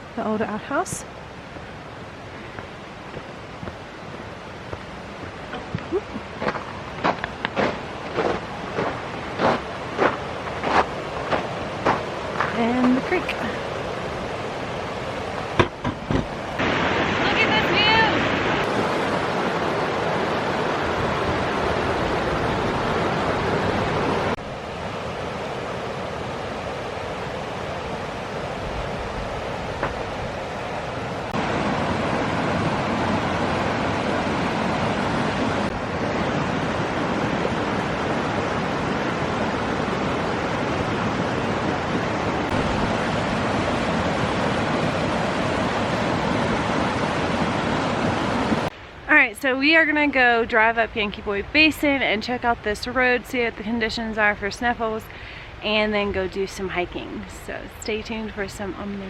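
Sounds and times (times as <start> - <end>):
creek rushing: 0.0 - 58.8.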